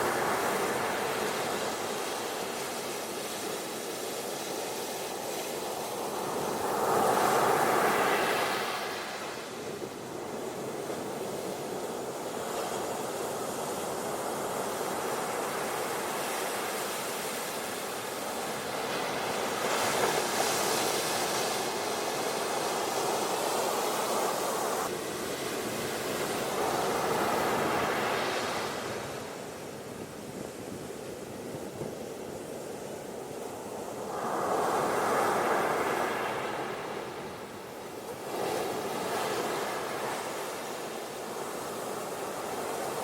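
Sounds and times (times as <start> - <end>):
ocean waves washing on beach: 0.0 - 43.0.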